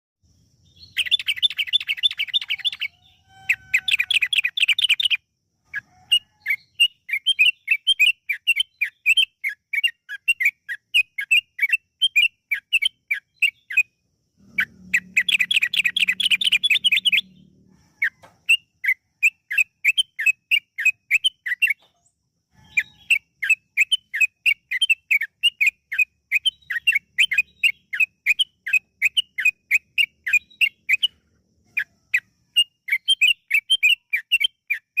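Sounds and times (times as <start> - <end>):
bird singing trills: 0.4 - 35.0.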